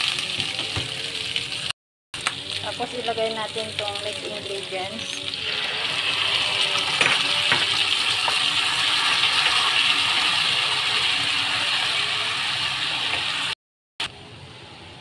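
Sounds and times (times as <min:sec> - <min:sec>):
sauce sizzling in a frying pan: 0:00.0 - 0:13.6.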